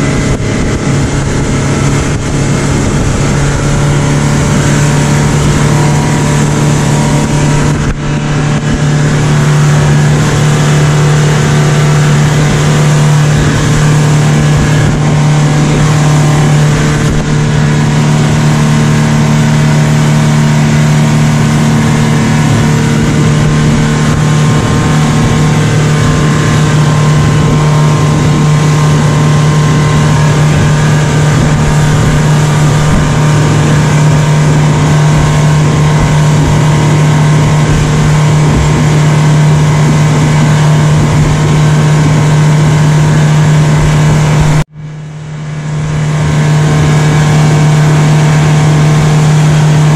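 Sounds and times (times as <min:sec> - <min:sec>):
speedboat engine running: 0:00.0 - 0:49.9
water rushing: 0:00.0 - 0:49.9.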